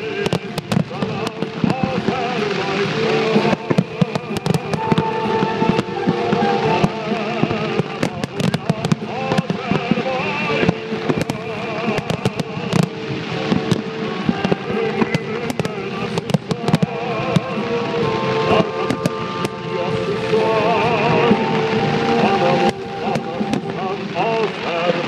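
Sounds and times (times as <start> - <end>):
fireworks bangs and crackles: 0.0 - 25.0
music playing: 0.0 - 25.0.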